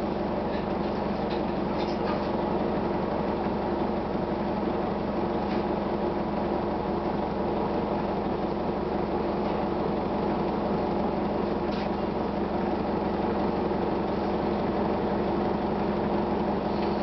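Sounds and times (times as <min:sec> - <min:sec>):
diesel bus engine running: 0:00.0 - 0:17.0.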